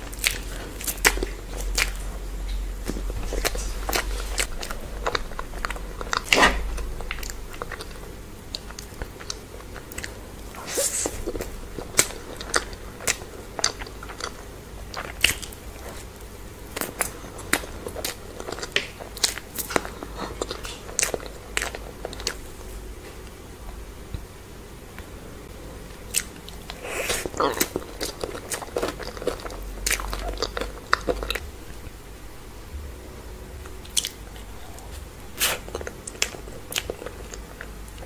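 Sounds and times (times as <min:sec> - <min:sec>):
person chewing cake: 0:00.0 - 0:23.8, 0:25.8 - 0:31.9, 0:33.6 - 0:38.0.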